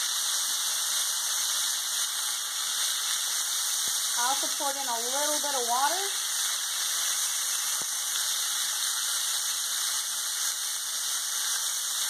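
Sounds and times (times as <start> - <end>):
broccoli sizzling in a skillet: 0.0 - 12.0.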